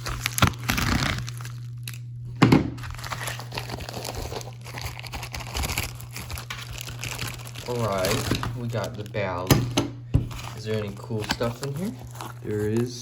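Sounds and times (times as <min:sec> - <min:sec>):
packaging crinkling and rustling: 0:00.0 - 0:09.5, 0:10.3 - 0:13.0.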